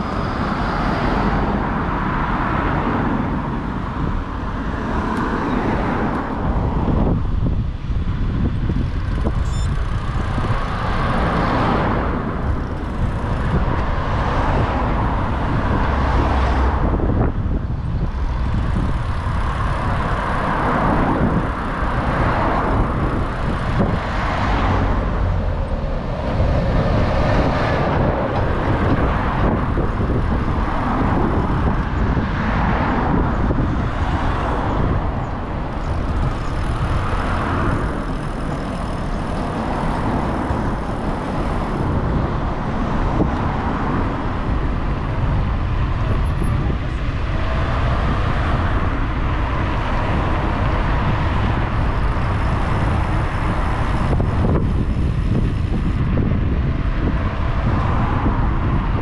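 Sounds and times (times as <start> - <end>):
traffic engine and tyre noise: 0.0 - 59.0
wind rushing over microphone: 0.0 - 59.0.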